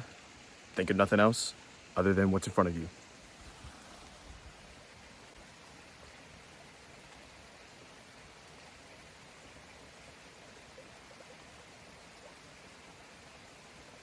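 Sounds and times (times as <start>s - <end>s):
forest ambience rushing hiss: 0.0s - 14.0s.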